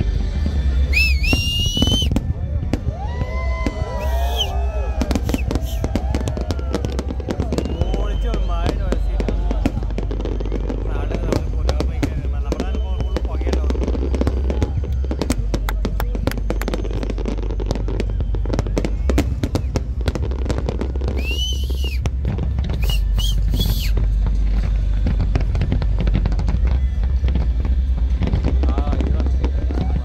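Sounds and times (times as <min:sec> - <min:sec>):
fireworks crackling and popping: 0:00.0 - 0:30.0
loud firework bursts: 0:00.0 - 0:30.0
low rumble: 0:00.0 - 0:30.0.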